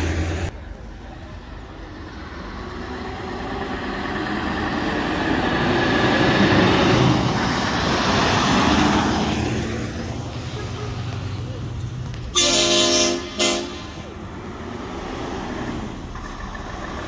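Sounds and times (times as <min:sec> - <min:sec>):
diesel truck driving past: 0:00.0 - 0:17.0.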